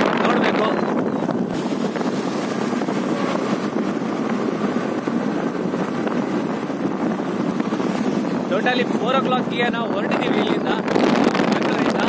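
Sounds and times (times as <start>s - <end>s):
motorcycle engine and tyre noise: 0.0s - 12.0s
wind rushing over microphone: 0.0s - 12.0s.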